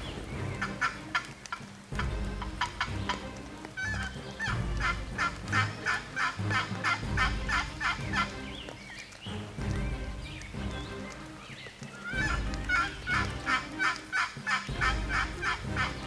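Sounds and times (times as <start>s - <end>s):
turkey calling: 0.0s - 9.1s, 10.8s - 16.0s.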